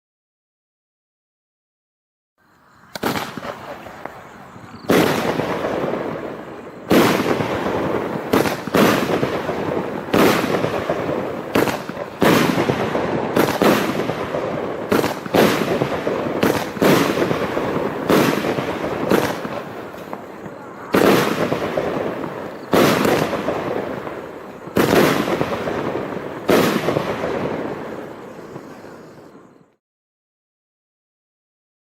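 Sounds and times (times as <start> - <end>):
firework crackling: 2.4 - 29.8
firework bangs: 2.9 - 29.7.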